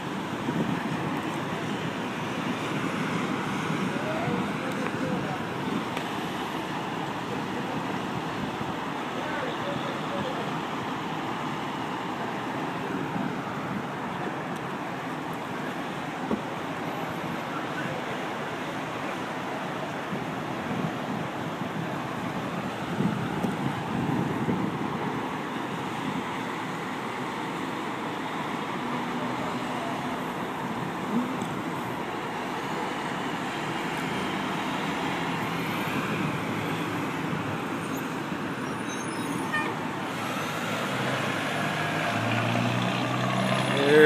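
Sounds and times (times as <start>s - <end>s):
fire truck engine: 0.0s - 44.0s
traffic noise: 0.0s - 44.0s.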